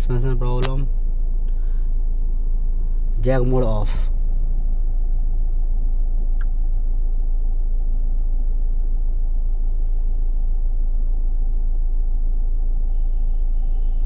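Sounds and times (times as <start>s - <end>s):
car engine idling inside cabin: 0.0s - 14.0s.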